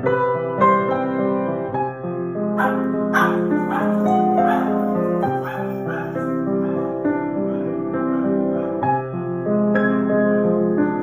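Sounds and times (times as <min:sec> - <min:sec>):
grand piano playing: 0:00.0 - 0:11.0.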